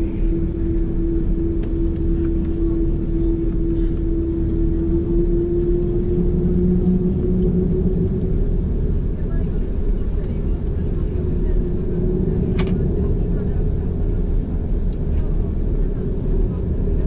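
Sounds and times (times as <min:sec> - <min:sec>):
airliner engines rumbling: 0:00.0 - 0:17.0
lower hum: 0:00.0 - 0:17.0
strong steady hum: 0:00.0 - 0:17.0.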